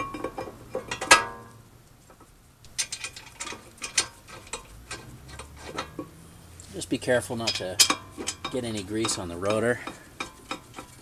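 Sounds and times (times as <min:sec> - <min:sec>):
metal bracket clinking and scraping: 0:00.0 - 0:11.0.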